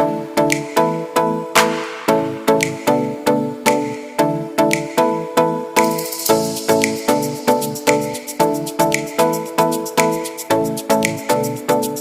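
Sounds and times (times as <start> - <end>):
electronic music chords: 0.0 - 12.0.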